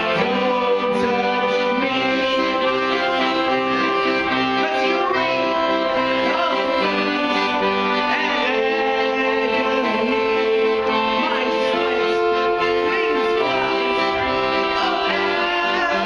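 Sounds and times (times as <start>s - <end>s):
accordion playing polka: 0.0s - 16.0s
man singing: 0.0s - 16.0s.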